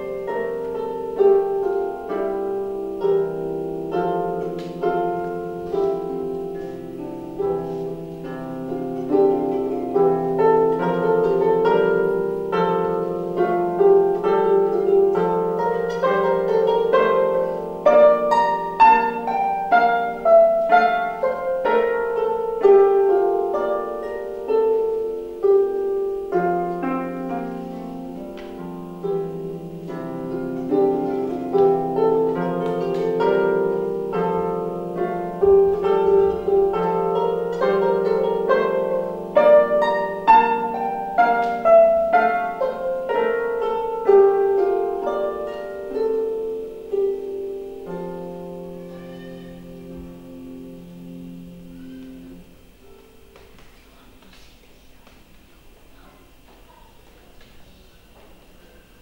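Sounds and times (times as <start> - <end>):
harp plucked melody: 0.0 - 53.6.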